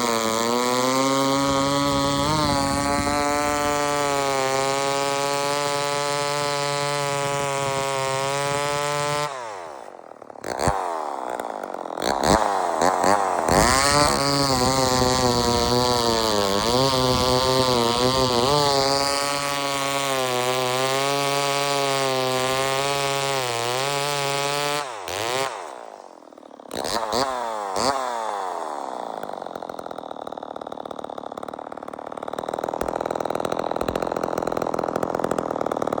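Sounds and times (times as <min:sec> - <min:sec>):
chainsaw revving: 0:00.0 - 0:36.0.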